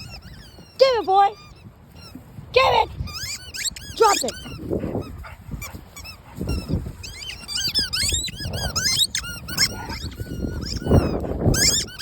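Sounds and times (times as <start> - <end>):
squeaky toy squeaks: 0.0 - 12.0.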